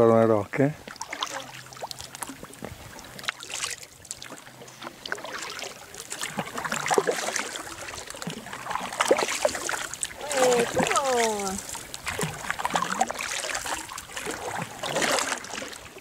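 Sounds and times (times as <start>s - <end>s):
water dripping off paddle: 0.8s - 15.9s
paddle splashing in water: 0.8s - 16.0s.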